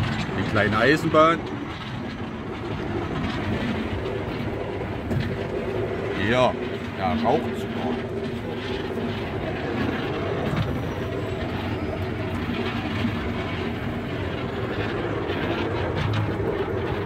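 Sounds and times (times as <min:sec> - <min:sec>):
ride vehicle engine running: 0:00.0 - 0:17.0.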